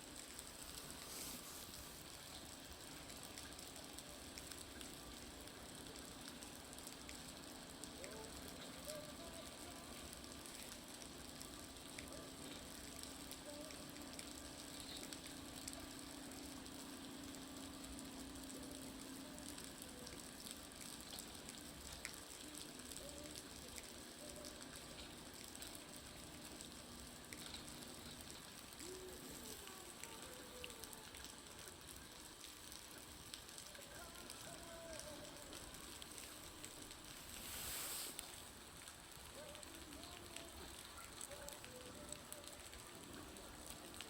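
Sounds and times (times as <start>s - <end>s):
meltwater dripping off roof: 0.0s - 44.0s.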